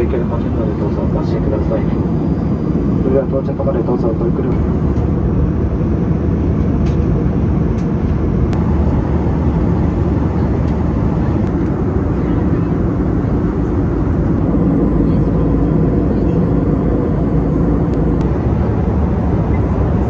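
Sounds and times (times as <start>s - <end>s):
jet airliner cabin noise: 0.0s - 20.0s.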